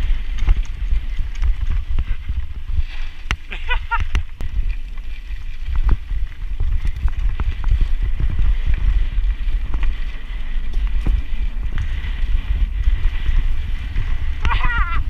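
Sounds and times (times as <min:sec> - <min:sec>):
bike clicks and rattles: 0:00.0 - 0:15.0
tyres rolling on dirt: 0:00.0 - 0:15.0
wind rumble on microphone: 0:00.0 - 0:15.0.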